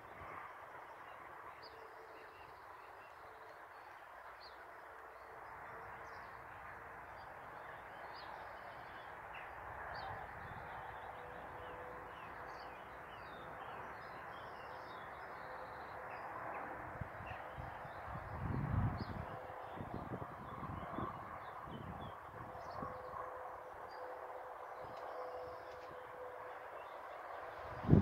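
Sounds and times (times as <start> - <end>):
distant road traffic hum: 0.0 - 28.0.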